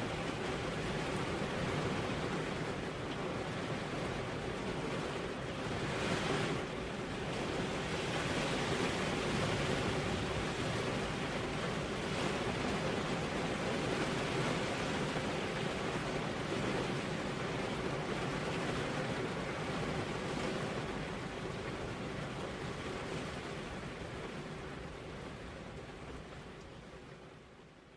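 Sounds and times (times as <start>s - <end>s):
rain and wind hiss: 0.0s - 27.9s.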